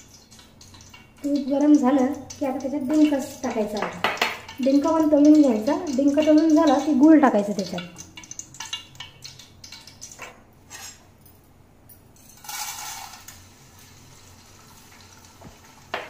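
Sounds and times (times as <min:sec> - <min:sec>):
sizzling in hot ghee: 0:00.0 - 0:10.8, 0:12.4 - 0:16.0.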